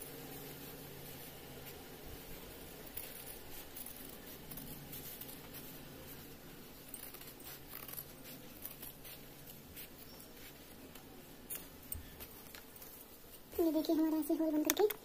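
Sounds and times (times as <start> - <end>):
fabric rustling: 0.0 - 13.6.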